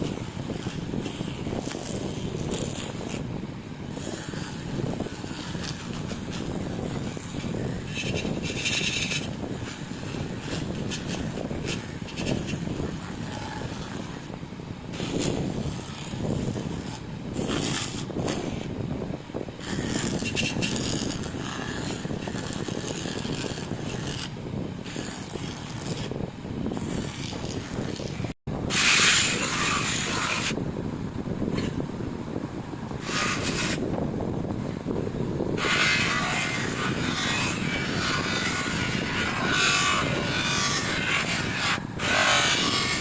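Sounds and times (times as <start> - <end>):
metal part scraping buffing wheel: 0.0 - 3.2, 3.9 - 18.7, 19.6 - 30.6, 31.5 - 31.8, 32.9 - 33.9, 35.6 - 43.0.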